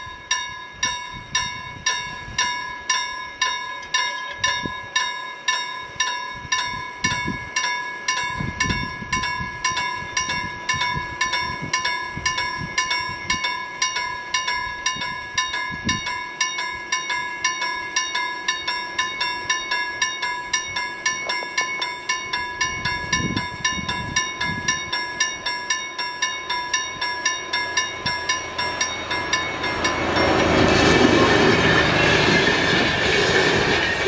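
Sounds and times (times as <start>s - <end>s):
level crossing warning bell: 0.0s - 34.0s.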